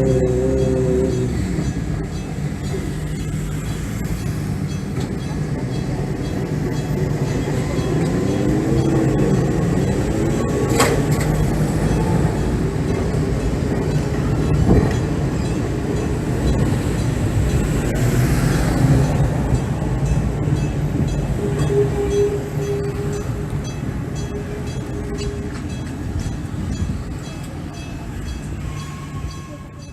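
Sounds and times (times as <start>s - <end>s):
electric train wheels rumbling: 0.0s - 29.9s.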